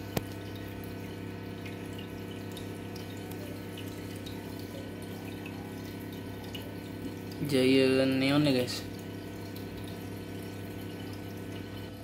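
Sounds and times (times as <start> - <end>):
aquarium water bubbling: 0.0 - 12.0
faint drips: 0.0 - 12.0
low steady hum: 0.0 - 12.0.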